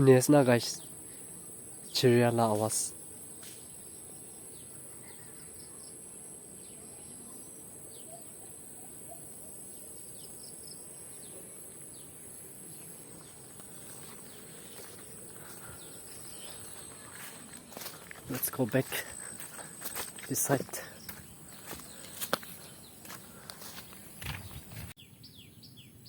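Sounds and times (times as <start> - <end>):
birds chirping: 0.0 - 26.0
insects droning: 0.0 - 26.0.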